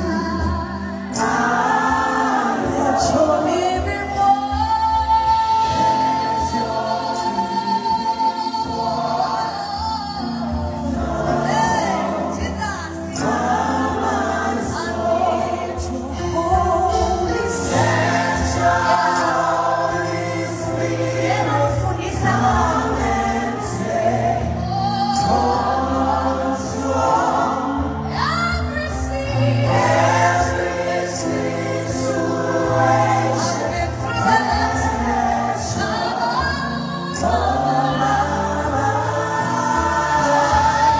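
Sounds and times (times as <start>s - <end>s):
choir voices: 0.0s - 40.9s
woman singing lead: 0.0s - 40.9s.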